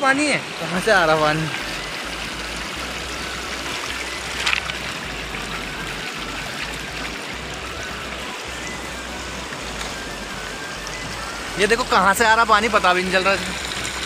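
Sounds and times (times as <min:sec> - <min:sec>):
shallow water trickling over stones: 0:00.2 - 0:14.0.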